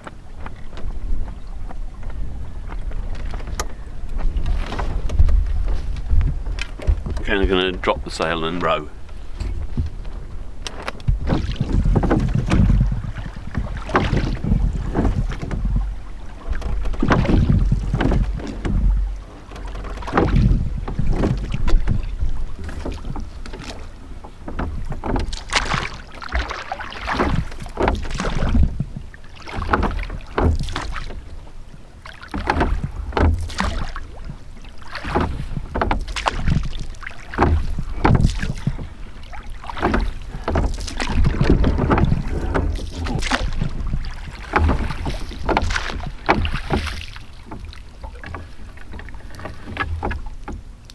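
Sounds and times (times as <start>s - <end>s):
oars splashing and knocking: 0.0s - 50.9s
wind rumble on microphone: 0.0s - 50.9s.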